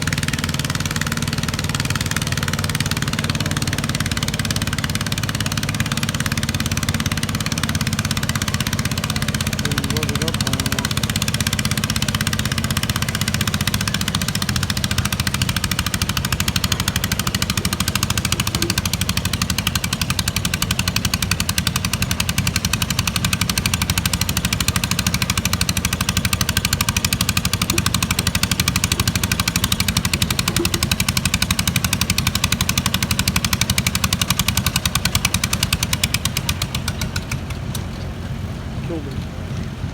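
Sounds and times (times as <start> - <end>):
tractor engine running at high revs: 0.0 - 39.9.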